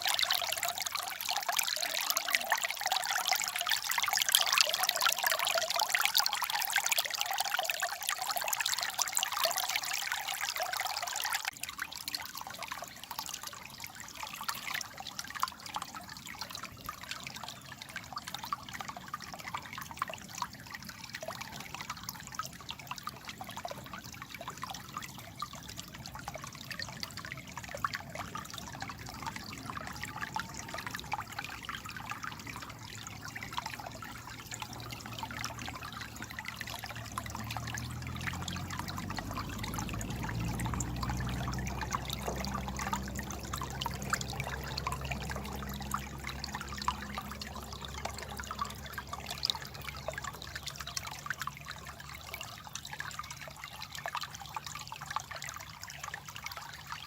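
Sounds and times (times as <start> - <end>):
babbling water: 0.0 - 57.0.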